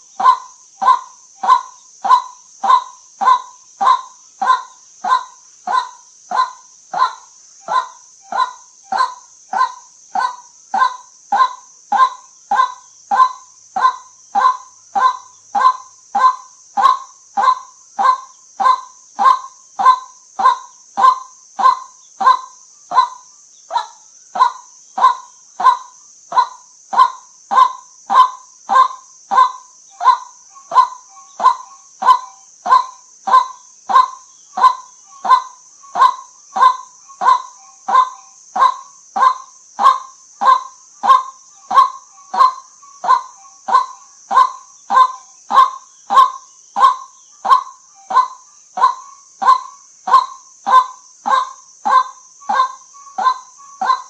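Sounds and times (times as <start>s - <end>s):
steady high hiss: 0.0s - 54.0s
waterhen kwak calls: 0.0s - 54.0s.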